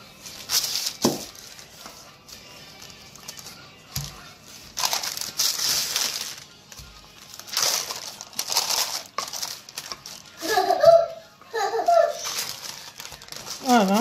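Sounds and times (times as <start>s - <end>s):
baking paper rustling: 0.0s - 14.0s.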